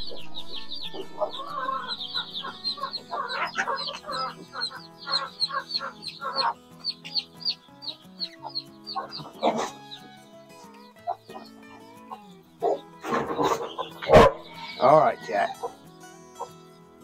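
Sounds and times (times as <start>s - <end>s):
hen clucking: 0.0s - 16.6s
chicks peeping: 0.0s - 16.9s.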